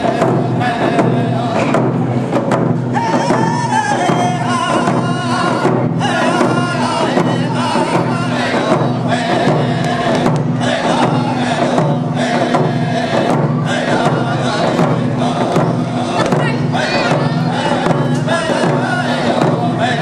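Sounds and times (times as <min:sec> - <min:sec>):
men singing together: 0:00.0 - 0:02.0, 0:02.8 - 0:20.0
hand drums beating: 0:00.0 - 0:20.0.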